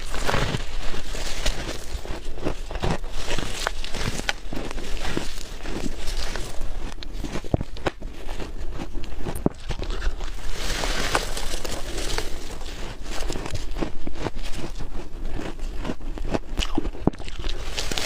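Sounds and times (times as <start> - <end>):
crunching bites into frost: 0.0 - 18.0.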